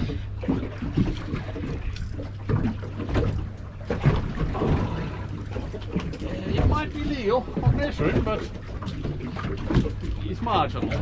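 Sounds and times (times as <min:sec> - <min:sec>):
knocks and splashes: 0:00.0 - 0:11.0
steady low hum: 0:00.0 - 0:11.0.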